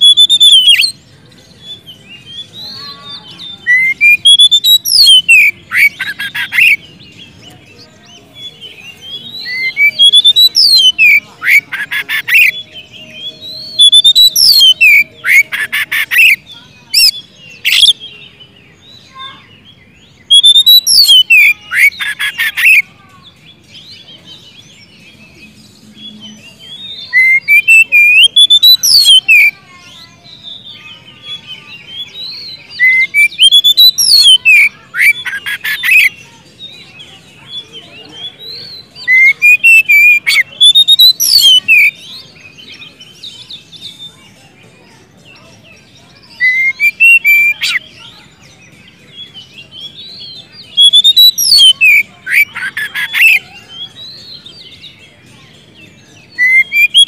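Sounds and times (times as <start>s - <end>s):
bird singing whistled phrases: 0.0s - 1.0s, 1.6s - 6.9s, 7.7s - 22.9s, 23.7s - 44.4s, 45.2s - 55.0s, 55.8s - 57.0s
soft bird twittering: 0.0s - 57.0s.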